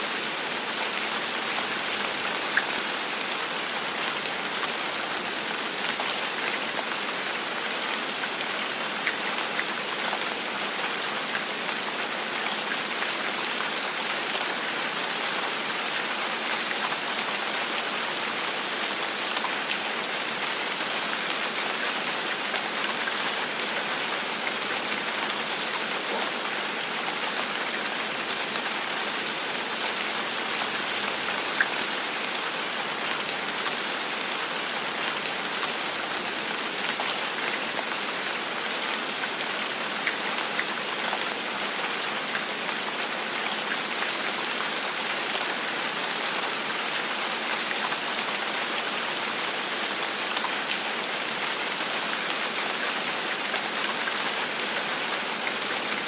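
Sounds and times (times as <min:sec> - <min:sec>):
gentle rain on a surface: 0:00.0 - 0:56.0.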